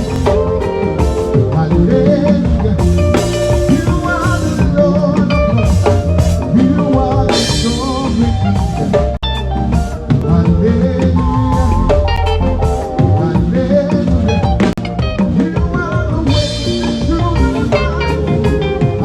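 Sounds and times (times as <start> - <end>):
live band through a pa: 0.0 - 19.0.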